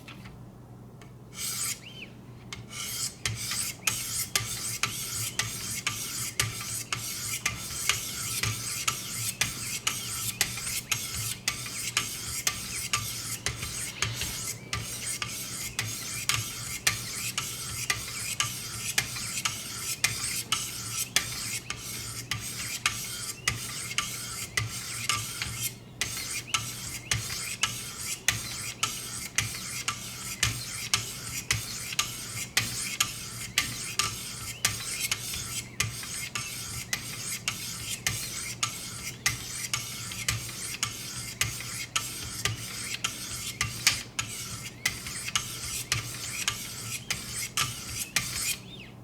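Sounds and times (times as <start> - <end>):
sharpening stone rasping on knife: 2.7 - 48.6.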